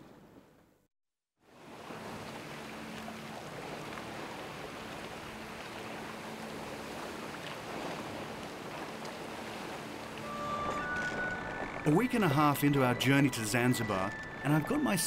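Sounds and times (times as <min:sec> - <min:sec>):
sea water splashing along a hull: 0:01.5 - 0:14.9.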